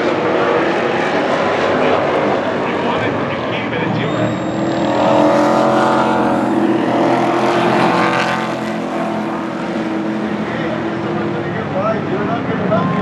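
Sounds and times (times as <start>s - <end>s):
race truck engines at full throttle: 0.0s - 13.0s.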